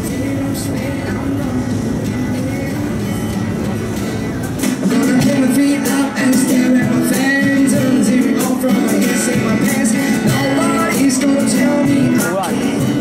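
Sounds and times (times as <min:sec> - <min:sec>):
people singing: 0:00.0 - 0:03.0, 0:04.7 - 0:13.0
acoustic guitars strummed: 0:00.0 - 0:13.0.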